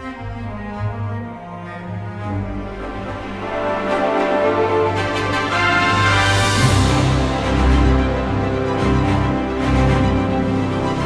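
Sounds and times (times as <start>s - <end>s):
background music with held chords: 2.1s - 11.0s.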